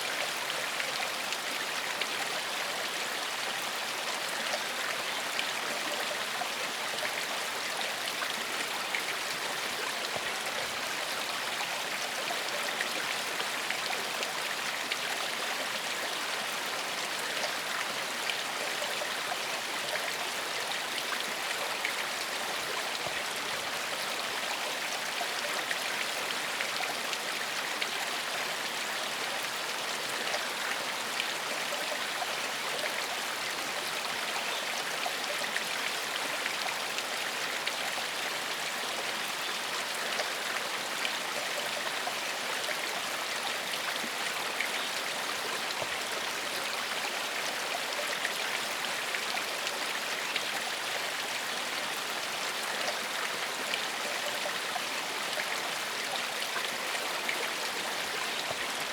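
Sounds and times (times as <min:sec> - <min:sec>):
stream of running water: 0:00.0 - 0:58.9.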